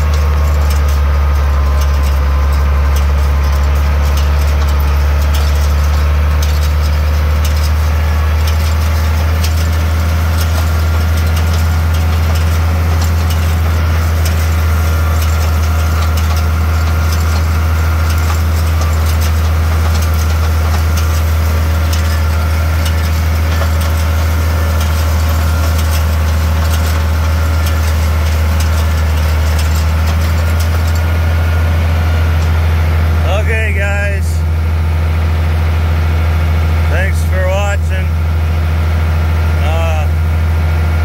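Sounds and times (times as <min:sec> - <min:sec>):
hay rake clicking and rattling: 0:00.0 - 0:35.7, 0:36.3 - 0:40.2
tractor engine droning: 0:00.0 - 0:41.0.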